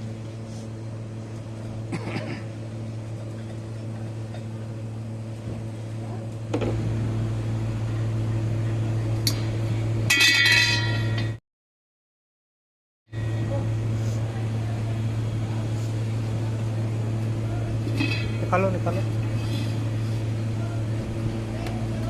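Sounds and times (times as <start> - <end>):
machine hum: 0.0 - 11.4, 13.1 - 22.0.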